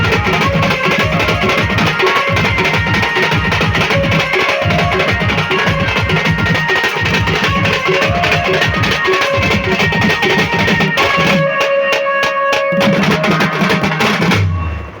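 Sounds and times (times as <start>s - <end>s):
fast drum beat: 0.0s - 15.0s
live band music: 0.0s - 15.0s.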